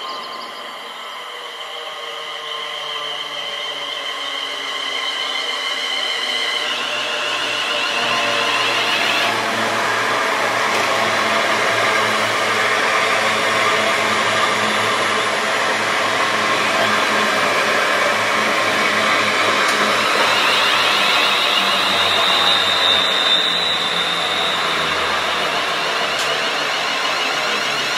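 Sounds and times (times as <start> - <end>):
train passing at speed: 0.0 - 27.9.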